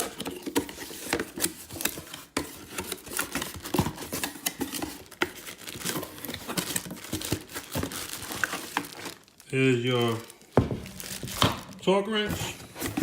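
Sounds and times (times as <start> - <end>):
packaging being opened by hand: 0.0 - 13.0.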